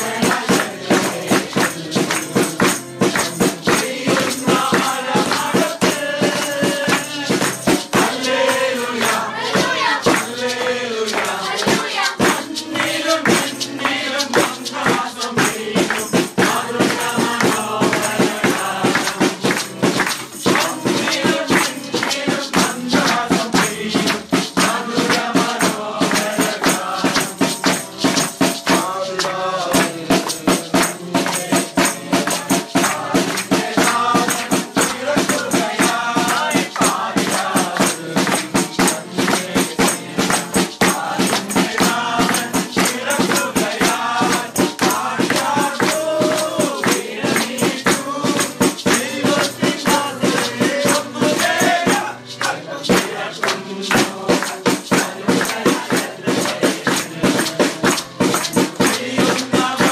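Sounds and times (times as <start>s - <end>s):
acoustic guitar strumming: 0.0s - 59.9s
group singing a carol: 0.0s - 59.9s
hand claps: 0.0s - 59.9s
tambourine: 0.0s - 59.9s.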